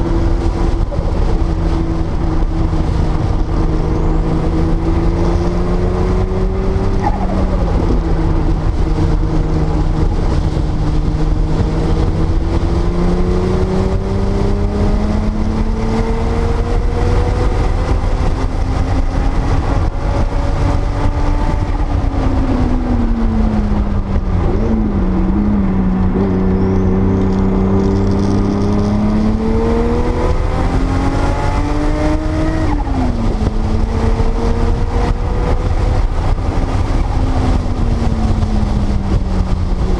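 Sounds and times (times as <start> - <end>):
low rumble: 0.0 - 13.6, 16.3 - 39.9
car engine under hard driving: 0.0 - 39.9.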